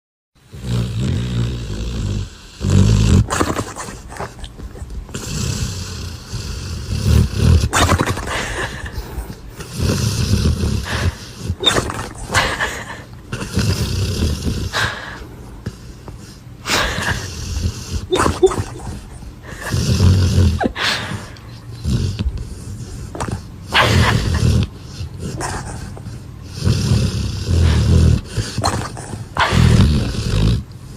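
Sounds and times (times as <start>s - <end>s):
loud snoring: 0.5s - 4.0s, 5.1s - 9.0s, 9.6s - 15.8s, 16.6s - 30.9s.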